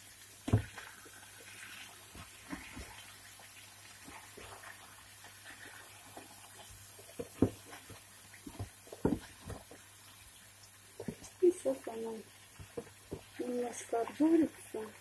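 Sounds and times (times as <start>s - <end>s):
frying sizzle: 0.0s - 15.0s.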